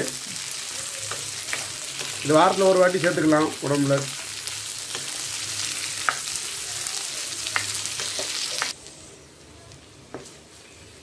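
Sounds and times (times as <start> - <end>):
vegetables frying in hot oil: 0.0 - 9.1.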